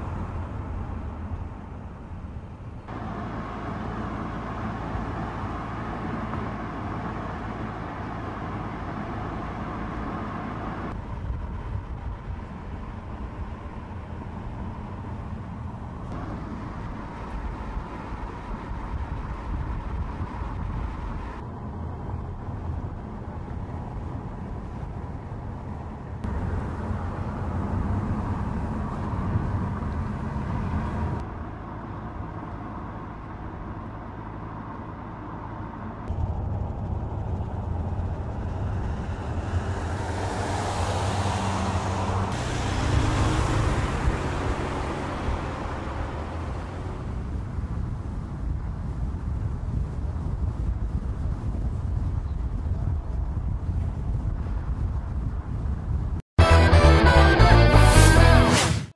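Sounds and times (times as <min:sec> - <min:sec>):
car engine and tyre noise: 0:00.0 - 0:58.9.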